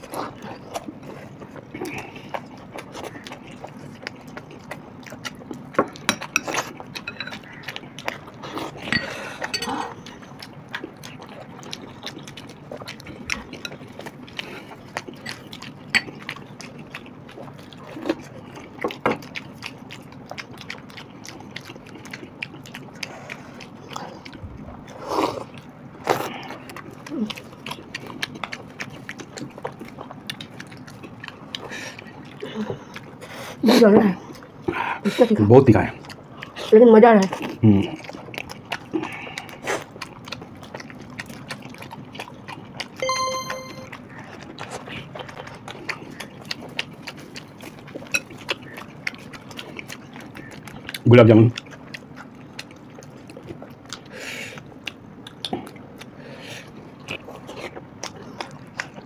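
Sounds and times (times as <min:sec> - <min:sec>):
chewing and wet mouth clicks: 0:00.0 - 0:33.6, 0:35.8 - 0:59.0.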